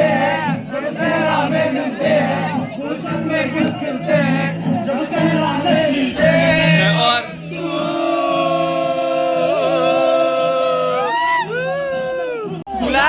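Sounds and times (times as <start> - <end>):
several voices singing: 0.0 - 11.6.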